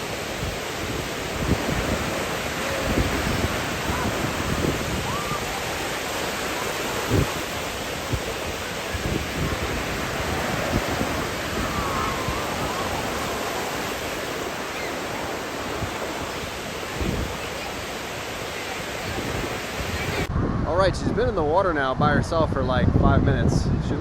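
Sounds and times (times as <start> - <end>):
ocean waves washing ashore: 0.0 - 24.0
wind rumbling on microphone: 0.0 - 24.0.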